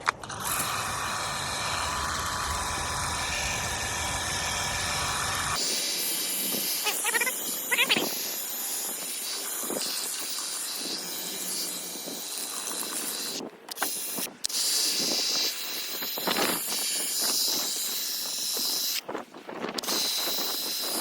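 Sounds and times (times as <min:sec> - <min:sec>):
pressure washer spray hissing: 0:00.4 - 0:19.0, 0:19.8 - 0:21.0.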